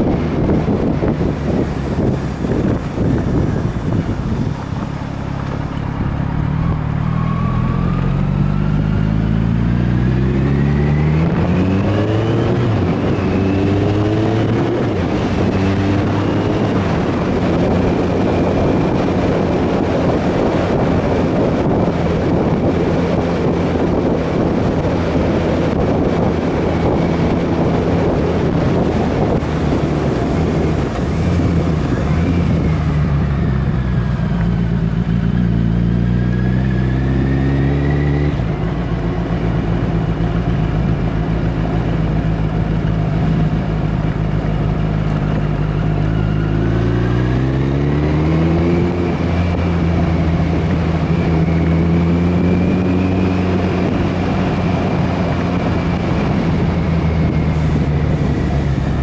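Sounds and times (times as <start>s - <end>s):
motorcycle engine accelerating: 0.0s - 59.0s
wind on microphone: 0.0s - 59.0s.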